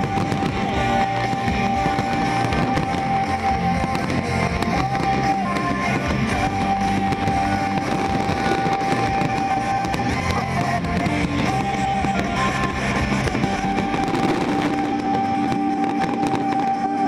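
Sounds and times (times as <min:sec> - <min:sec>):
fireworks crackling and popping: 0:00.0 - 0:17.0
music with guitar: 0:00.0 - 0:17.0.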